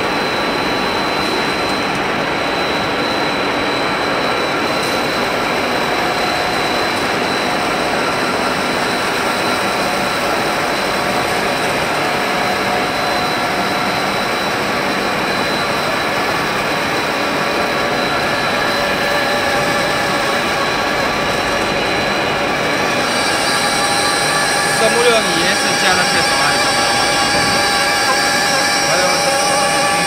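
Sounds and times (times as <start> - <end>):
high-pitched whine: 0.0 - 30.0
pipe extrusion machine running: 0.0 - 30.0.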